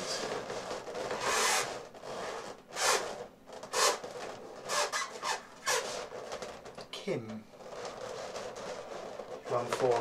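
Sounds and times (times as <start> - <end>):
pen squeaking on a balloon: 0.0 - 6.6, 7.6 - 10.0.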